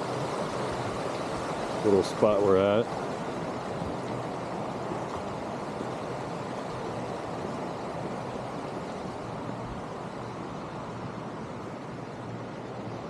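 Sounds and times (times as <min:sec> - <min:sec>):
mountain creek rushing: 0:00.0 - 0:13.0.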